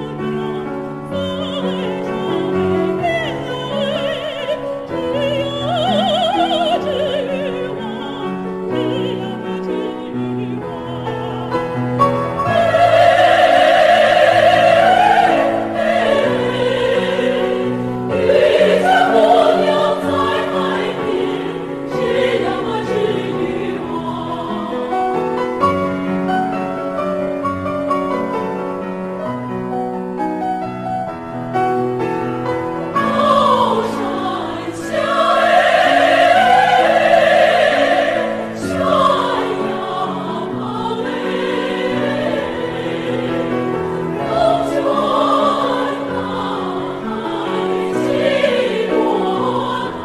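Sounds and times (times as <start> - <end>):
women's choir singing: 0.0 - 26.0, 32.8 - 50.0
piano accompaniment: 0.0 - 50.0.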